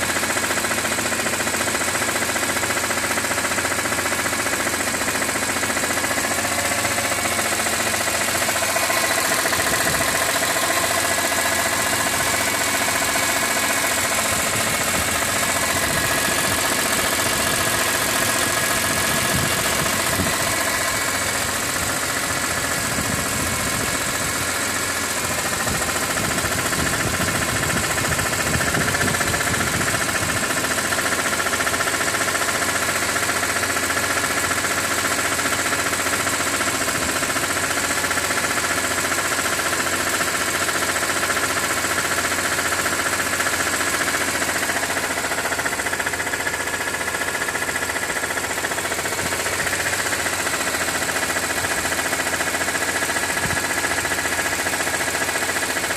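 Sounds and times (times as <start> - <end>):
abnormal mechanical engine noise: 0.0 - 55.9
car engine running: 0.0 - 55.9.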